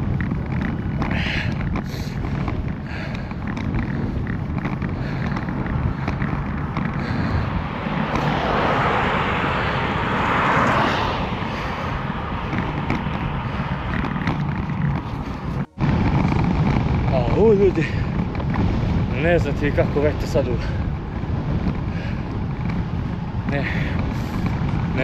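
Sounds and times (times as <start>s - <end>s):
rushing noise: 0.0s - 25.0s
wind buffeting microphone: 0.0s - 25.0s.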